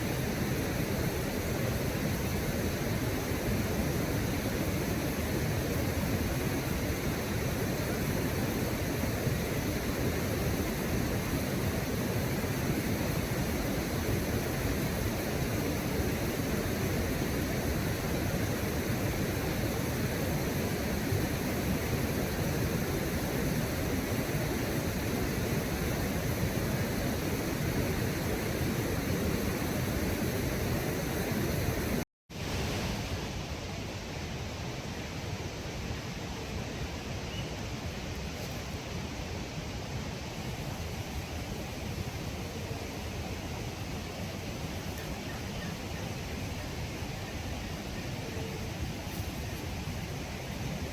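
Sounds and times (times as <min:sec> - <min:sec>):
river water rushing: 0:00.0 - 0:50.9.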